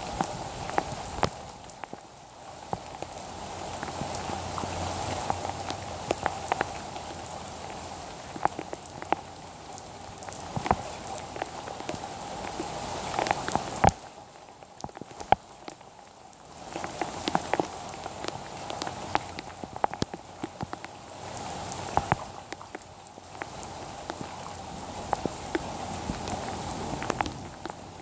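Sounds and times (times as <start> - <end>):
heavy rain falling: 0.0 - 28.0
sharp taps of raindrops: 0.0 - 28.0.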